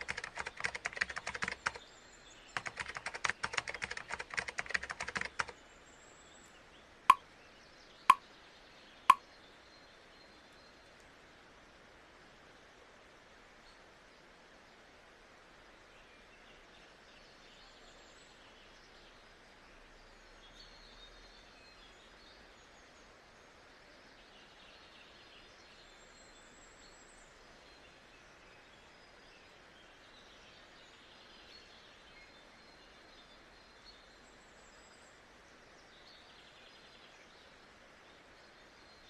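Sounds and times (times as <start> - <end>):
steady white noise hiss: 0.0 - 39.0.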